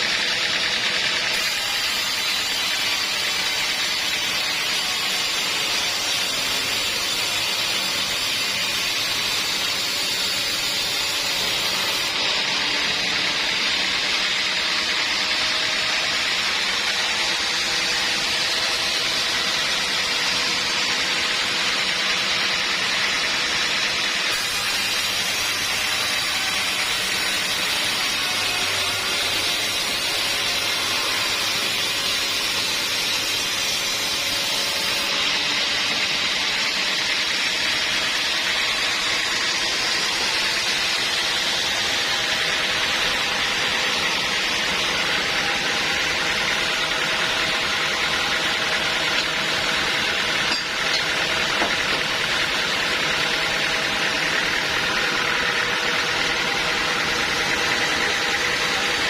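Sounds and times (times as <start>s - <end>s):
sawmill machinery hissing: 0.0s - 59.0s.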